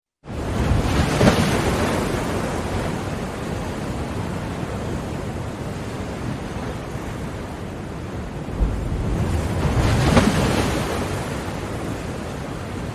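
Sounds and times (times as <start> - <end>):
waves washing on shore: 0.3 - 12.9.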